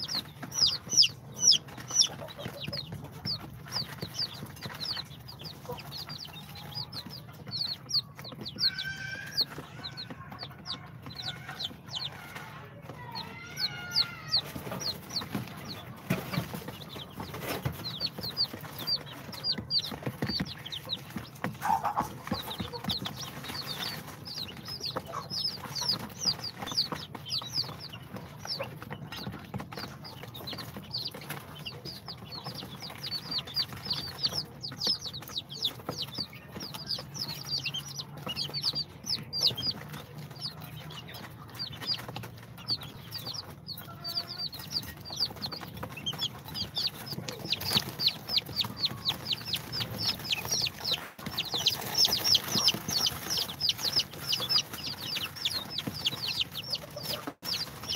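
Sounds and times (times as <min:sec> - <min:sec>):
chicks peeping: 0:00.0 - 0:57.9.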